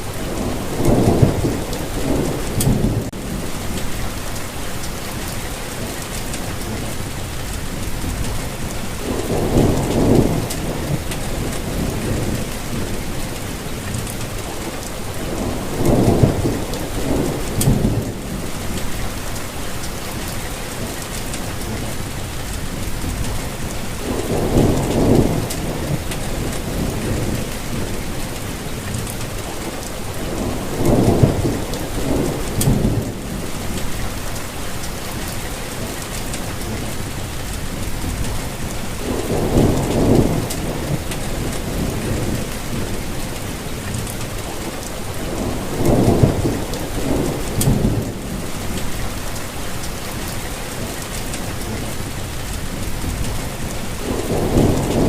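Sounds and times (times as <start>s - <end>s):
thunder rumbling: 0.0s - 5.3s, 7.7s - 20.3s, 21.5s - 35.3s, 36.5s - 50.5s, 51.5s - 55.0s
rain falling: 0.0s - 55.0s.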